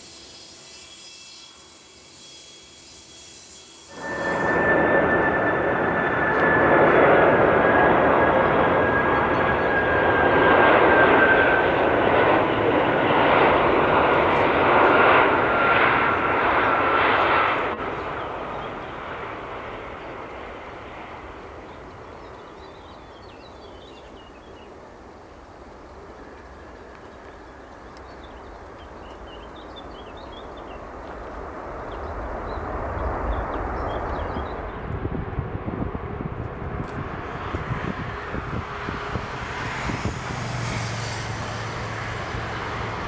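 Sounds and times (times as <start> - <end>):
jet engines with high whine: 0.0 - 43.0.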